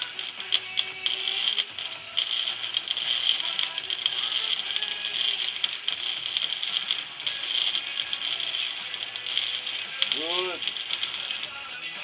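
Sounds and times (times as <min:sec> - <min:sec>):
arc welding crackling and sizzling: 0:00.0 - 0:12.0.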